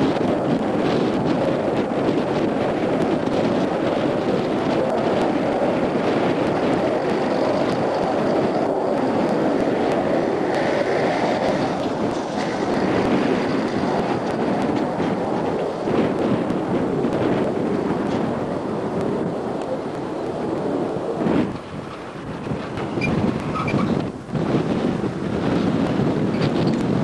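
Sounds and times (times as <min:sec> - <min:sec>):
wind noise on microphone: 0:00.0 - 0:27.0.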